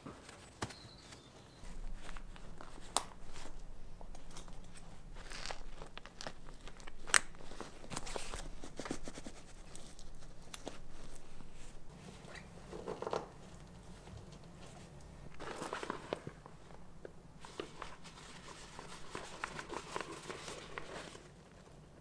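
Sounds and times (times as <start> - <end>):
fabric rustling and crinkling: 0.0 - 22.0.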